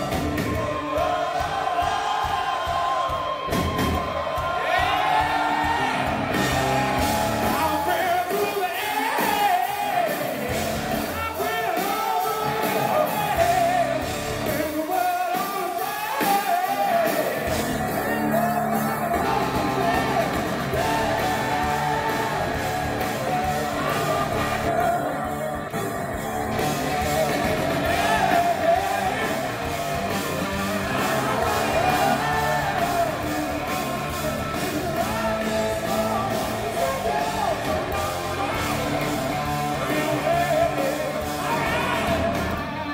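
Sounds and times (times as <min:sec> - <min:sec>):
live hard rock band: 0:00.0 - 0:42.9
person singing: 0:04.8 - 0:42.9.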